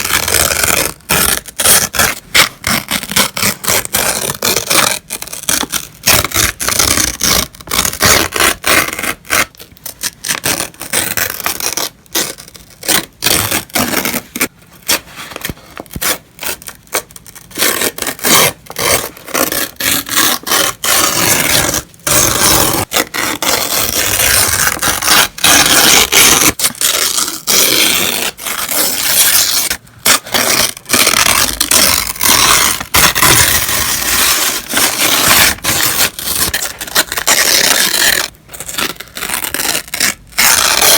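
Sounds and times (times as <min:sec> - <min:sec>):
paper tearing: 0:00.0 - 0:40.9.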